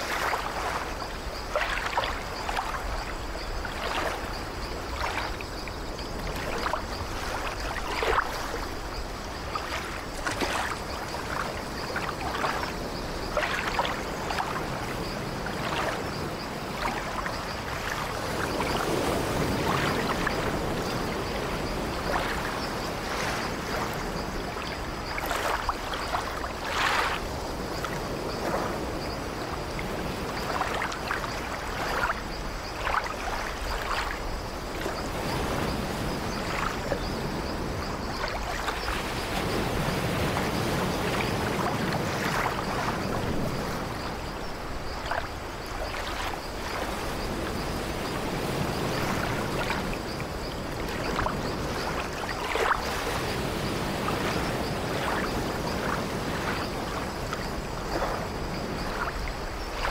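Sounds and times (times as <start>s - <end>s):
ocean surf: 0.0s - 59.9s
waves breaking: 0.0s - 59.9s.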